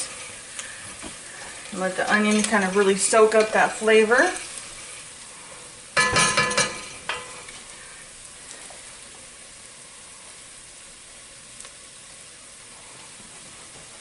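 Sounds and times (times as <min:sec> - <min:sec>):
onions sizzling in a pot: 0:00.0 - 0:14.0.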